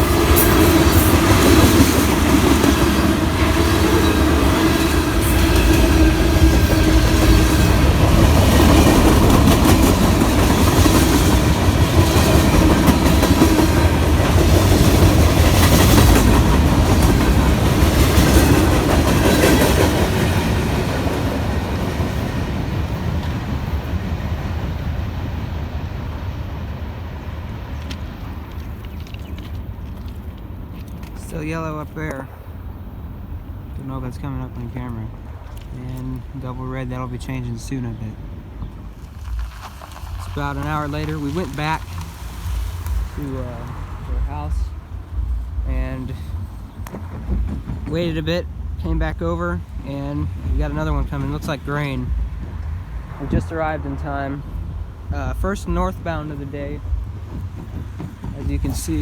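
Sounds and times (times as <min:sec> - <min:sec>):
train wheels clacking on rail joints: 0:00.0 - 0:26.0, 0:33.6 - 0:59.0.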